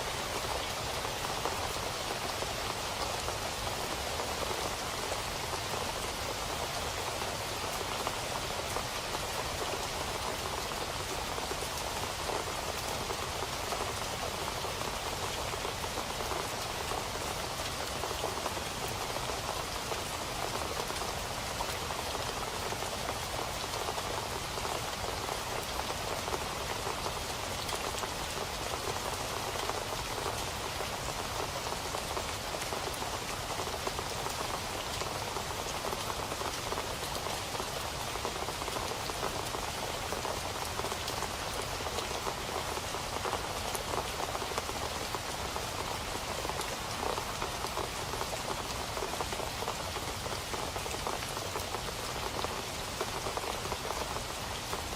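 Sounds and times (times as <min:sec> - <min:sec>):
steady rain pattering: 0:00.0 - 0:54.9.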